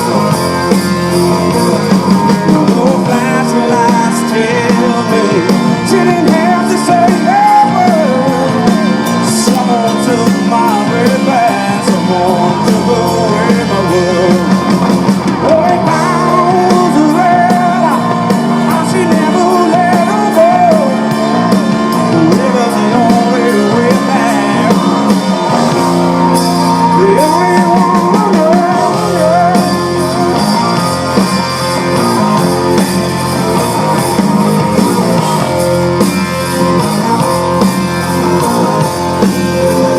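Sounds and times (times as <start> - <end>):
bending lead guitar line: 0.0 - 39.9
live blues-rock band: 0.0 - 39.9.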